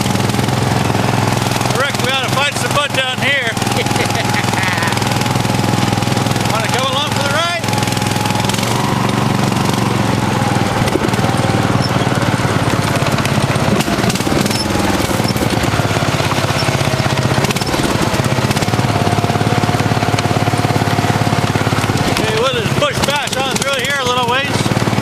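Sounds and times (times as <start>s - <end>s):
high engine whine: 0.0s - 25.0s
vehicle engine running: 0.0s - 25.0s.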